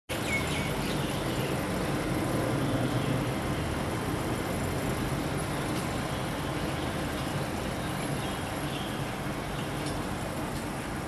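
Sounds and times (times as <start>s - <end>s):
road traffic noise: 0.1s - 11.0s.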